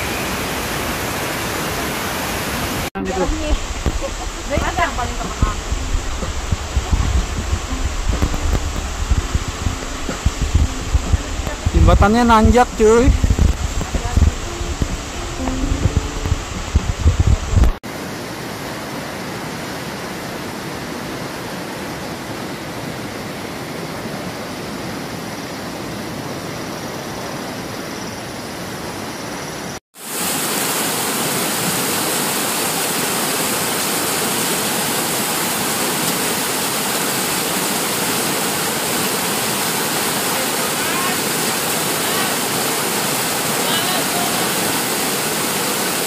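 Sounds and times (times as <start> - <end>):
rushing mountain stream: 0.0 - 46.0.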